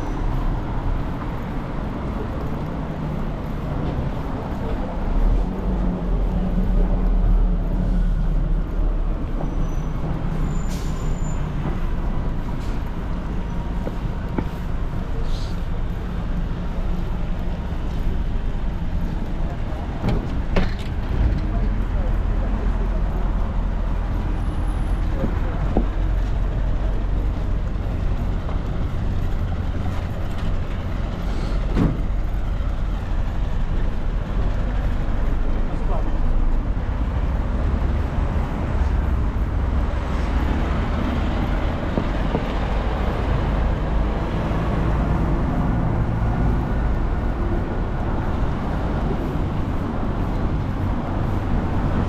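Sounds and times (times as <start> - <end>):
passing traffic rumble: 0.0 - 52.0.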